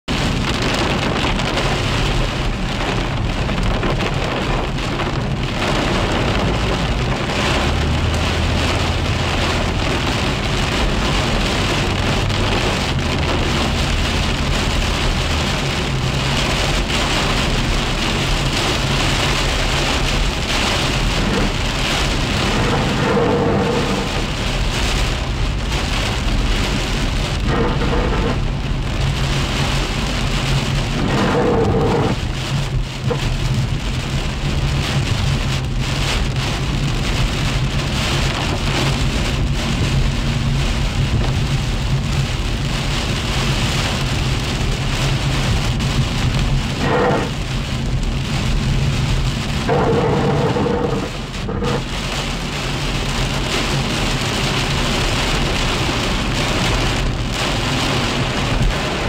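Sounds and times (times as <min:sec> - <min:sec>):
heavy rain on car windshield: 0:00.0 - 0:59.0
road and engine rumble: 0:00.0 - 0:59.0.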